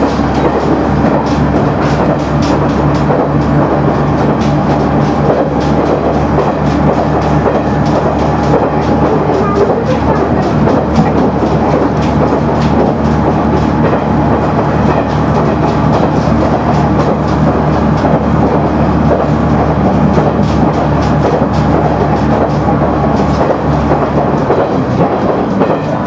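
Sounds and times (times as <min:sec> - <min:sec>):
diesel engine drone: 0:00.0 - 0:26.0
wheels clicking over rail joints: 0:00.0 - 0:26.0.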